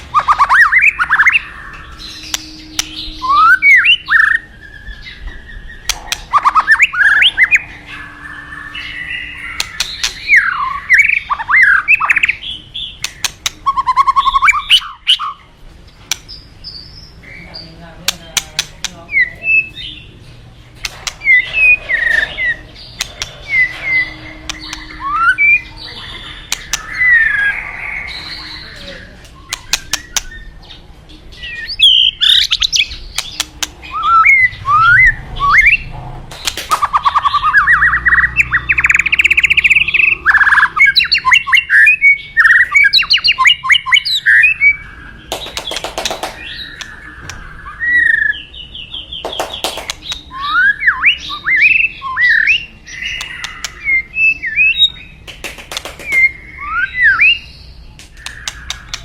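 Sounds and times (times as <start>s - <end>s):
bird singing whistles and trills: 0.0s - 15.5s, 21.0s - 35.9s, 36.7s - 55.2s, 56.0s - 59.0s.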